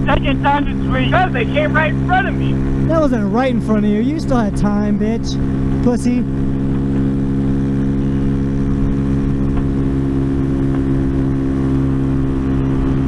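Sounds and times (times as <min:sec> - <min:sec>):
motorcycle engine cruising: 0:00.0 - 0:13.0
wind rumble: 0:00.0 - 0:13.0.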